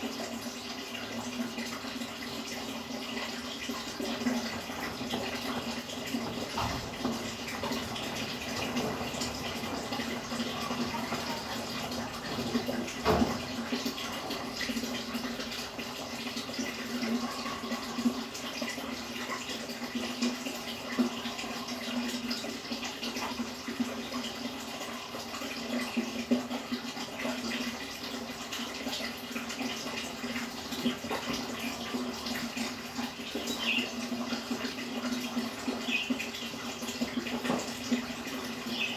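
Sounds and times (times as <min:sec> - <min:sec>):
aquarium water bubbling: 0:00.0 - 0:38.9.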